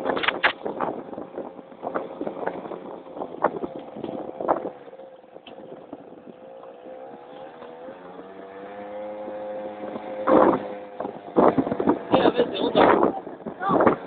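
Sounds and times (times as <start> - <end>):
scooter two-stroke engine: 0.0 - 14.0.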